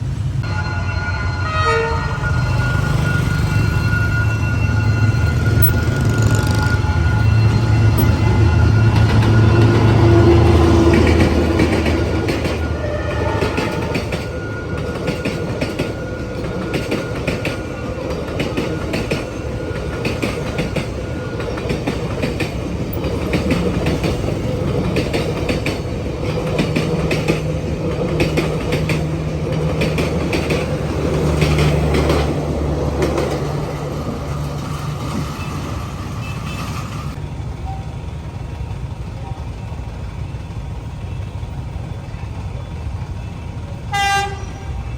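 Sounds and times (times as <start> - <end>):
diesel locomotive engine: 0.0 - 44.9
train wheels clicking over rails: 5.3 - 44.7.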